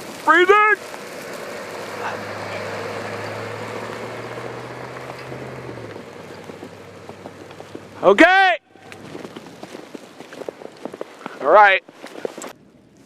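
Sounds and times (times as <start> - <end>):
vehicle engine humming: 0.0 - 10.6.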